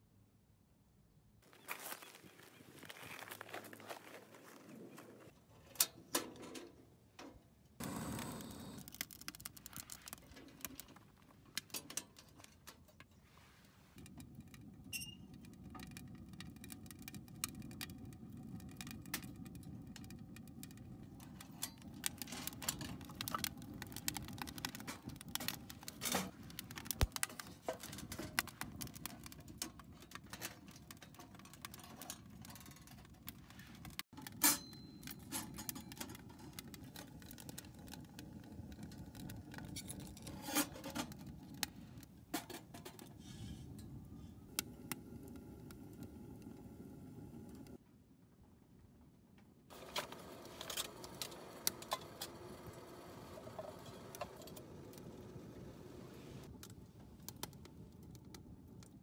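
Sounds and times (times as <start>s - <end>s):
wood fire crackling: 7.8s - 47.8s, 49.7s - 59.0s.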